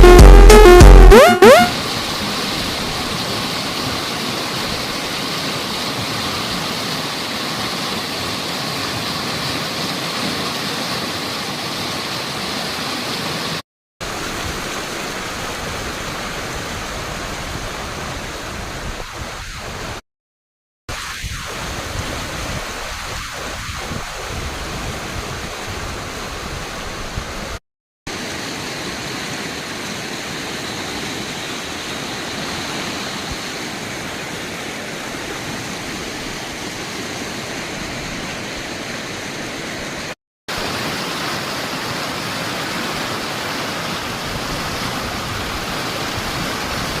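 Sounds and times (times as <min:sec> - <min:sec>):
rushing water: 0:01.7 - 0:20.0, 0:20.9 - 0:47.0.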